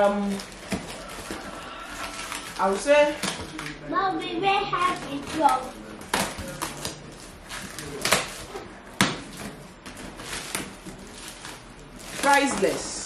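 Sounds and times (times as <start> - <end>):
cardboard and plastic rustling: 0.0 - 13.0.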